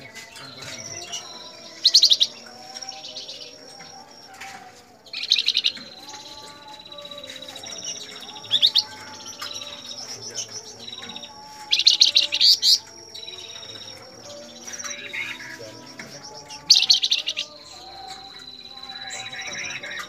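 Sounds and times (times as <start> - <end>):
other birds calling: 0.0 - 20.0
songbird chattering: 0.0 - 20.0.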